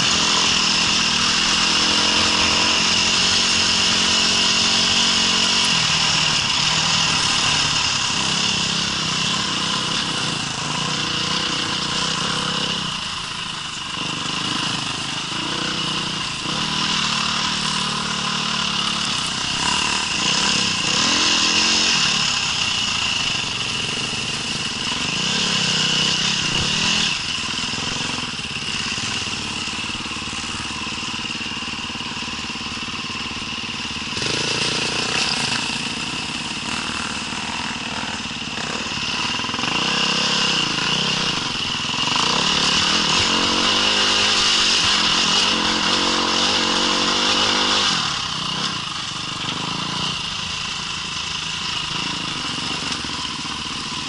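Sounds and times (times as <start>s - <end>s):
small engine revving: 0.0s - 54.0s.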